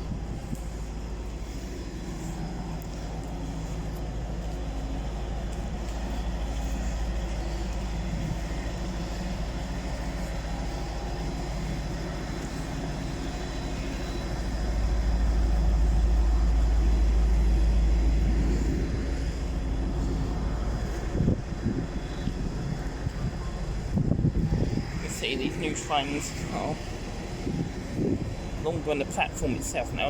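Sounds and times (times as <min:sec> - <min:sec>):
diesel train engine droning: 0:00.0 - 0:30.0
low rumble: 0:00.0 - 0:30.0.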